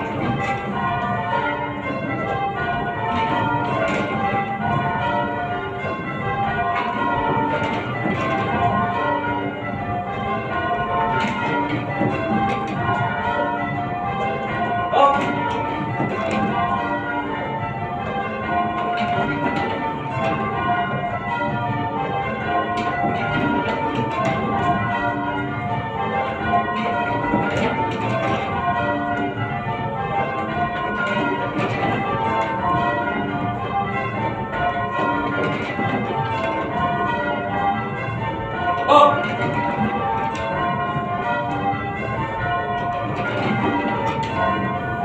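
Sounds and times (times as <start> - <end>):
church bells change ringing: 0.0 - 45.0.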